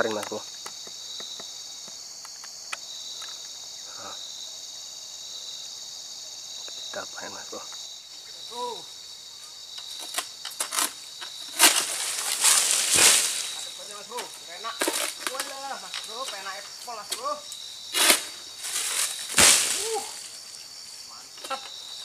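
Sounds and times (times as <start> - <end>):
insects shrilling: 0.0 - 22.0.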